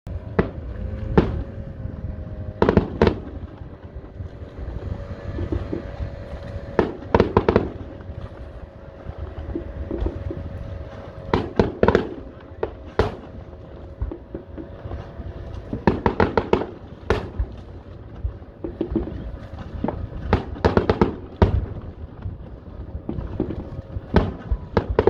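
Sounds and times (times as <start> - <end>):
fireworks bangs: 0.1 - 25.0
low background rumble: 0.1 - 25.0.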